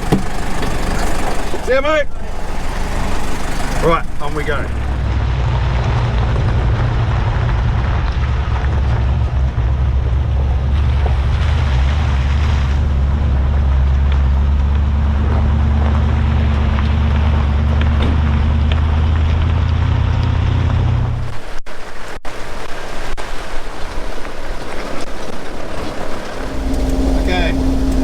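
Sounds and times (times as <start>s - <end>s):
low engine drone: 0.0s - 21.6s, 26.1s - 28.0s
road and wind noise: 0.0s - 28.0s.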